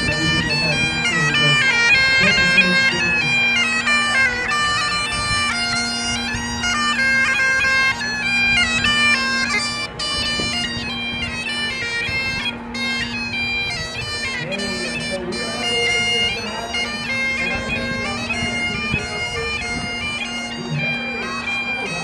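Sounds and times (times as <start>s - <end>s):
bagpipes playing a tune: 0.0s - 22.0s.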